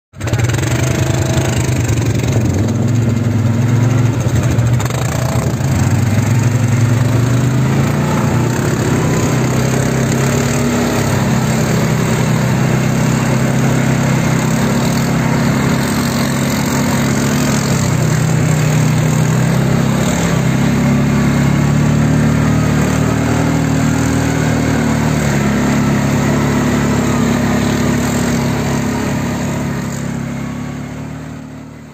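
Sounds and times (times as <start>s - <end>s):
driving through shallow water: 0.1s - 31.9s
quad bike engines running: 0.2s - 31.9s.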